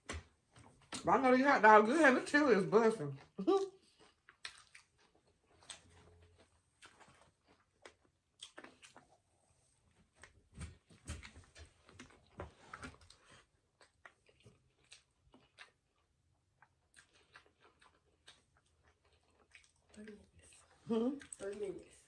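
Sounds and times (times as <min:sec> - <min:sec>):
close chewing with wet smacks: 0:00.0 - 0:01.2, 0:03.1 - 0:22.0.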